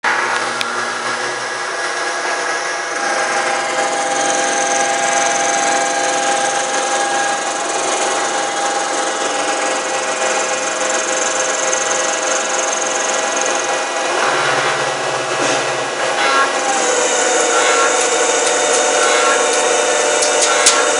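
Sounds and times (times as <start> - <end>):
lathe machining with high whine: 0.0 - 20.9.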